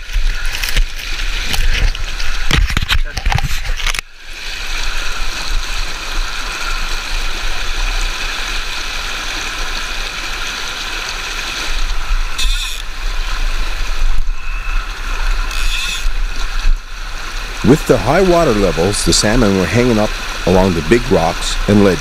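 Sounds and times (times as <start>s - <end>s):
river water rushing and gurgling: 0.0s - 22.0s.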